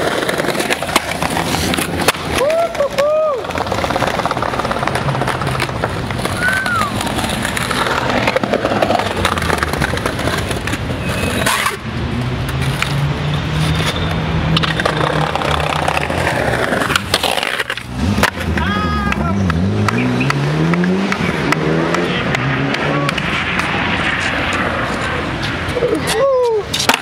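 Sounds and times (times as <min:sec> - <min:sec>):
skateboard popping and landing: 0:00.0 - 0:13.0, 0:13.6 - 0:27.0
skateboard wheels rolling on stone: 0:00.0 - 0:27.0.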